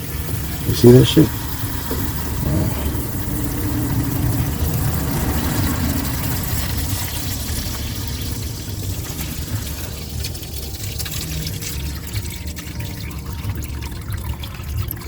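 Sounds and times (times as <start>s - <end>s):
water streaming into a pan: 0.0s - 15.0s.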